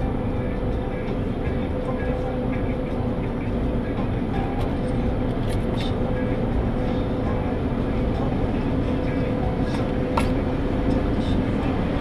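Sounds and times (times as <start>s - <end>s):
car wash machinery rumbling: 0.0s - 12.0s
constant hum: 0.0s - 12.0s.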